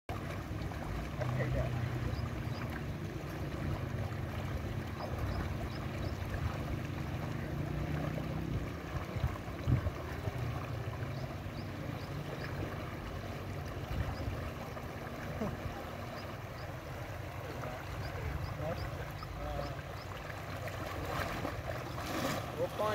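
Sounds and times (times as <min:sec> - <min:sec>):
fast-flowing stream rushing: 0:00.1 - 0:22.9.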